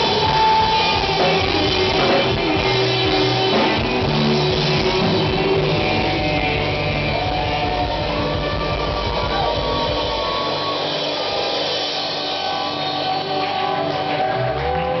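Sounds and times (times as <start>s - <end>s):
distorted electric guitars: 0.0s - 15.0s
rock band playing: 0.0s - 15.0s.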